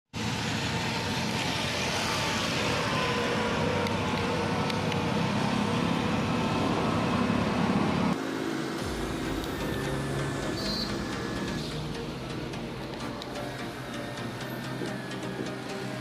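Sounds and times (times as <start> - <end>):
diesel engine running: 0.2 - 16.0.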